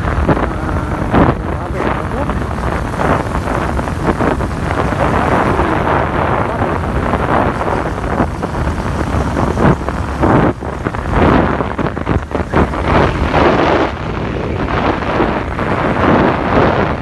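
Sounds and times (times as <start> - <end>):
vehicle engine rumbling: 0.0 - 17.0
wind buffeting microphone: 0.0 - 17.0.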